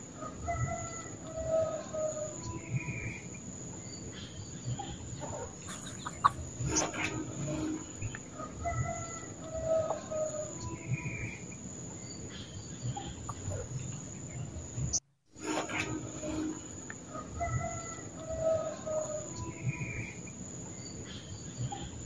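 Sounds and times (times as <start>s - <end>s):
bird calls: 0.0s - 22.0s.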